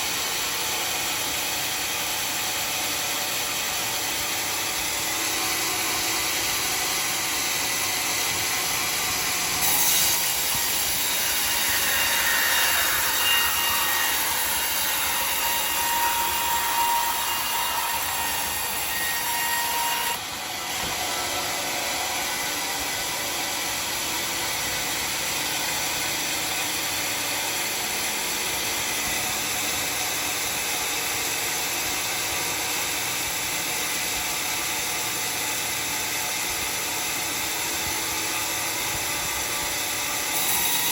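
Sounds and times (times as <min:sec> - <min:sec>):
saw cutting through hard wood: 0:00.0 - 0:40.9.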